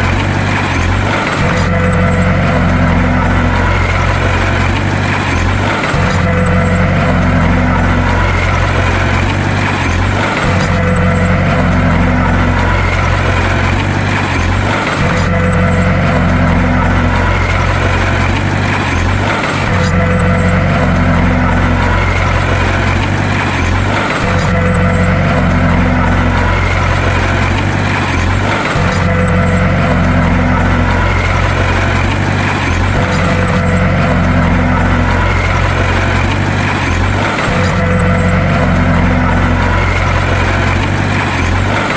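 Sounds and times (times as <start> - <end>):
bulldozer engine running: 0.0 - 41.9.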